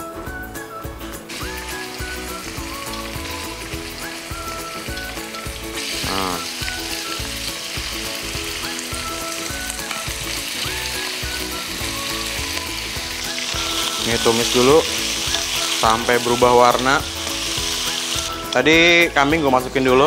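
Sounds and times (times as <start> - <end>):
background music with beat: 0.0 - 20.0
meat sizzling in hot oil: 1.2 - 19.8.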